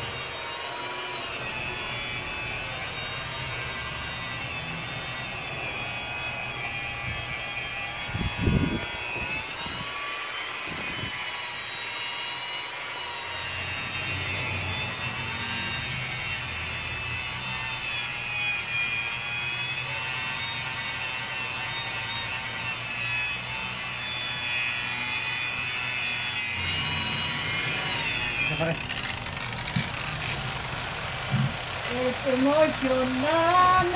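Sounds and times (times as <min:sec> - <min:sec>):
angle grinder buffing whine: 0:00.0 - 0:33.9.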